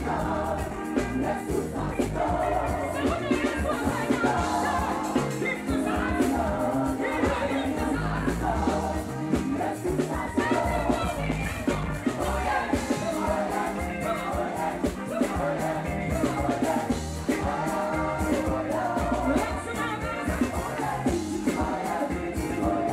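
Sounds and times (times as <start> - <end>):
gospel band playing: 0.0 - 22.9
woman singing into a microphone: 0.0 - 22.9.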